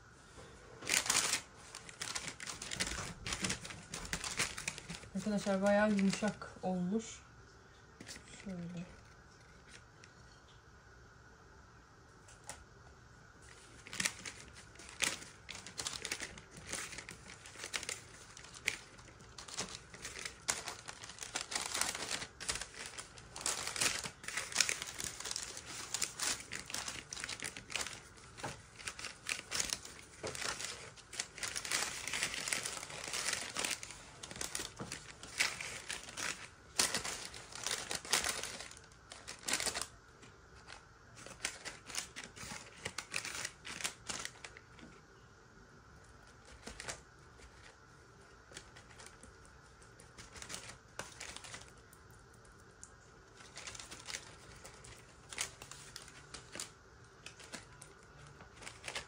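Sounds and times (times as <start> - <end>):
baking paper rustling: 0.4 - 7.1, 8.0 - 10.1, 13.4 - 45.0, 46.0 - 59.0.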